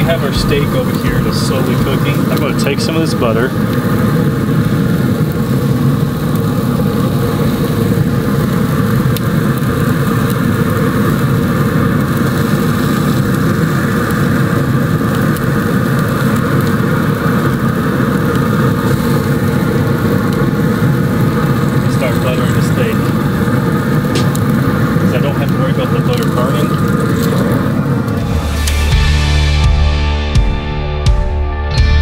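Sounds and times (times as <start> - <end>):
grill fan and fire humming: 0.0 - 30.0.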